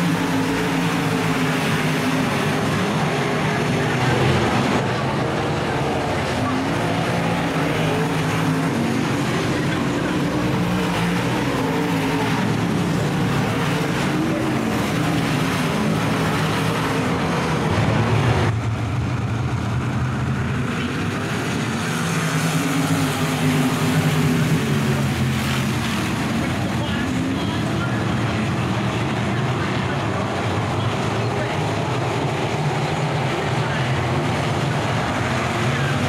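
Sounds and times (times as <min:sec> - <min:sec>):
race car engines running hard: 0:00.0 - 0:36.0.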